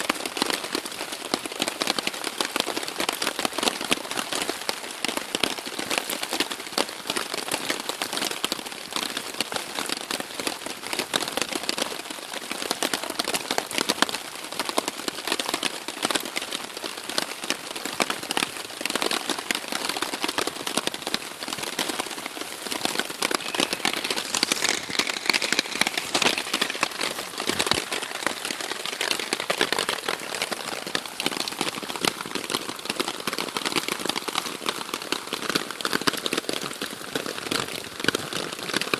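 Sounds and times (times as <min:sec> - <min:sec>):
rain on tarp: 0:00.0 - 0:38.9.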